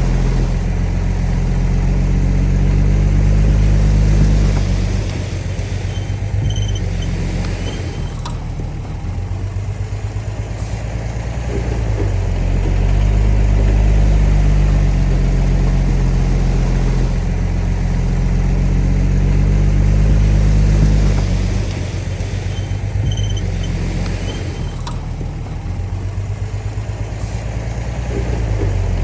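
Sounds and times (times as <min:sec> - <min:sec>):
bulldozer diesel engine revving: 0:00.0 - 0:29.0.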